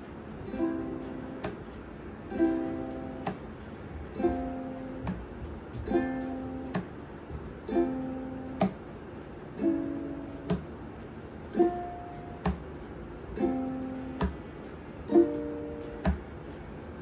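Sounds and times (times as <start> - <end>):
ukulele chords strummed: 0.0 - 17.0
sharp click muting strings: 0.4 - 16.6.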